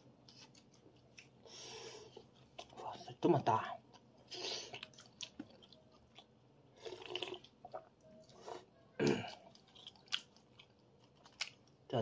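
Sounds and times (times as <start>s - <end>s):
man chewing food: 0.0s - 11.9s.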